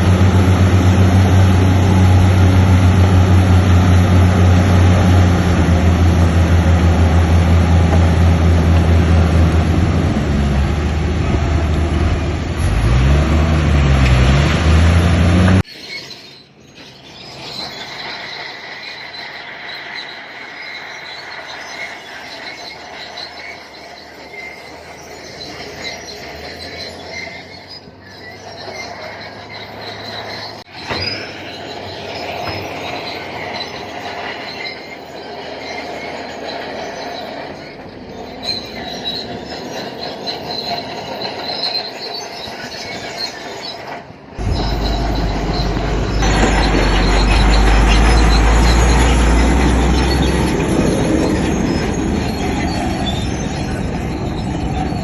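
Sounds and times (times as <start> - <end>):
bulldozer diesel engine running: 0.0 - 15.7, 17.2 - 55.0
steel tracks squealing and grinding: 0.0 - 55.0.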